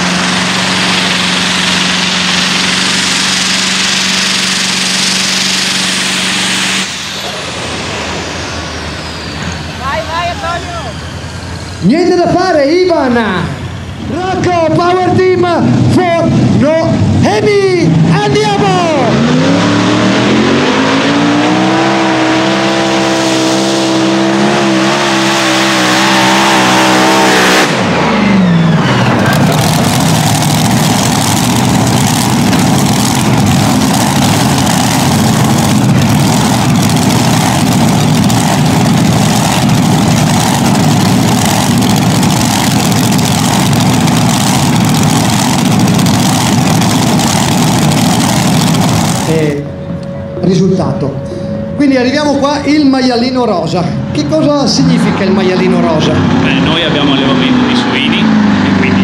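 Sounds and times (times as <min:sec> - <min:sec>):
pulling tractor engine roaring: 0:00.0 - 0:59.0.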